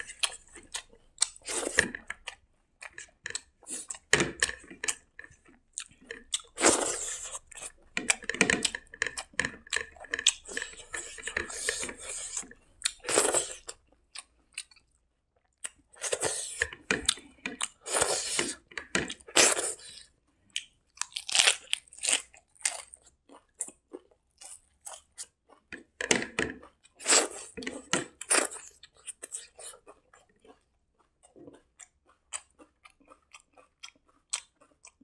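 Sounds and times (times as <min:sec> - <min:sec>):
chewing and crunching food: 0:00.0 - 0:35.0.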